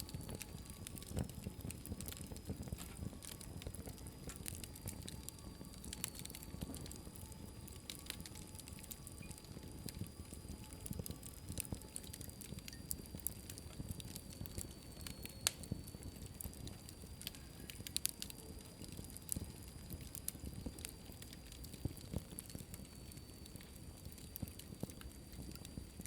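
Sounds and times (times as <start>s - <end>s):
fire crackling and popping: 0.0s - 26.0s
low rumble of flames: 0.0s - 26.0s.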